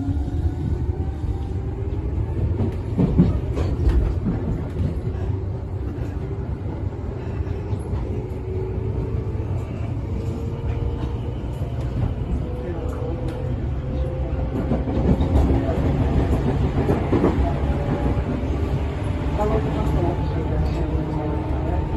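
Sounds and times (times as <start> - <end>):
electric train rumbling: 0.0 - 21.9.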